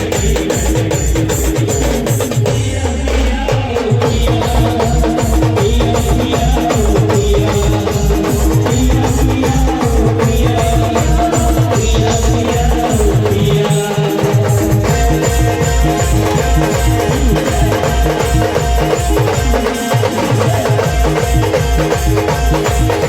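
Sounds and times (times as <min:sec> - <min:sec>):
fast drum beat: 0:00.0 - 0:23.0
live band dance music: 0:00.0 - 0:23.0.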